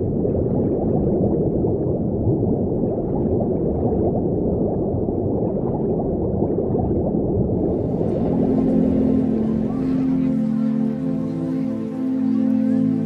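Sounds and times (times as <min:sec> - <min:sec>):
muffled underwater water rush: 0:00.0 - 0:13.0.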